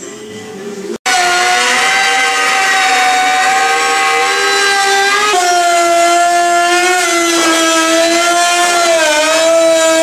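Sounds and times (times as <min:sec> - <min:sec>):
sander motor whine: 0:01.1 - 0:10.0.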